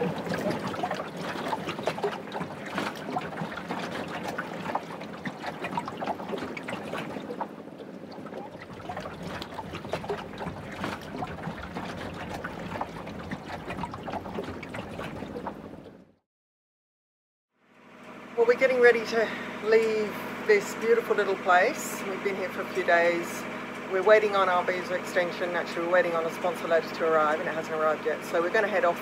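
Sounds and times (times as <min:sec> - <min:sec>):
waves lapping against boat hull: 0:00.0 - 0:16.2, 0:18.1 - 0:29.0.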